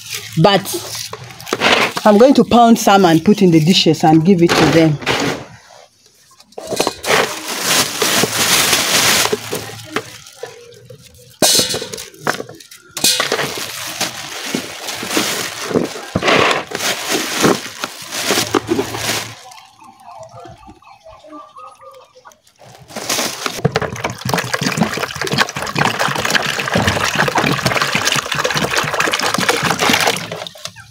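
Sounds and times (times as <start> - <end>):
plastic bag rustling: 0.0 - 3.9, 4.8 - 19.8, 22.6 - 30.9
roots clattering in plastic basin: 0.0 - 5.6, 6.4 - 19.7, 22.6 - 30.9.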